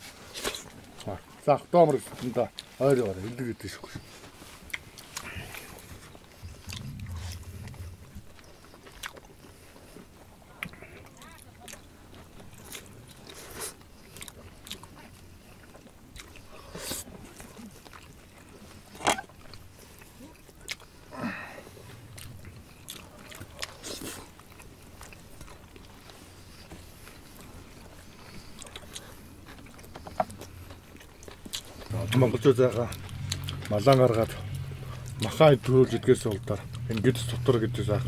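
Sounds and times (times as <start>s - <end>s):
wet chewing and biting: 2.2s - 38.0s.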